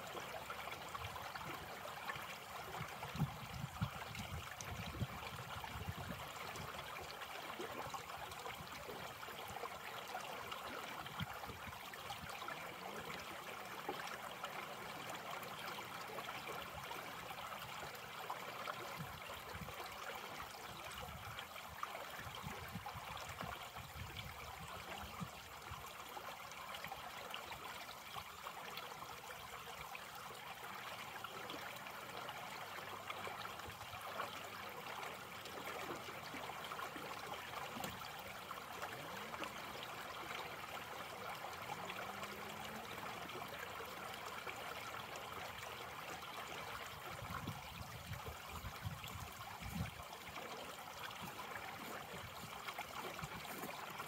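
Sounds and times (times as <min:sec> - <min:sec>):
creek trickling over stones: 0:00.0 - 0:54.0.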